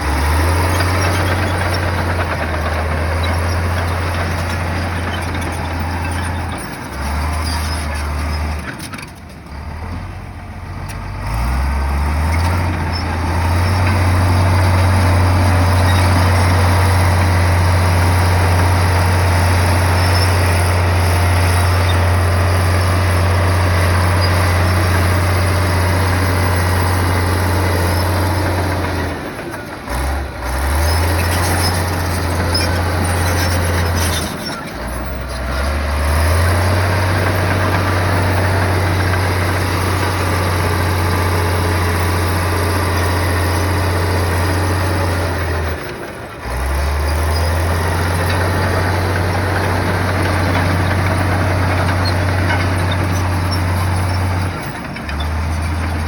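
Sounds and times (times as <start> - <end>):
bulldozer diesel engine working: 0.0 - 56.0.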